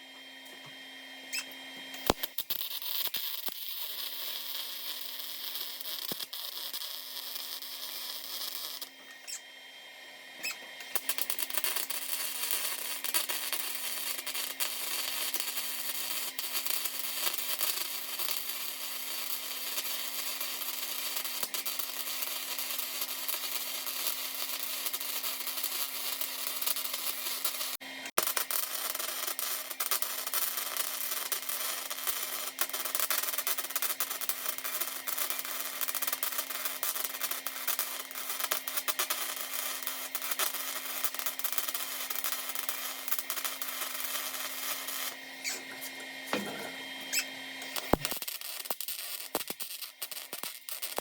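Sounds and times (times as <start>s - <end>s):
welding arc crackling: 1.3s - 9.4s, 10.4s - 51.0s.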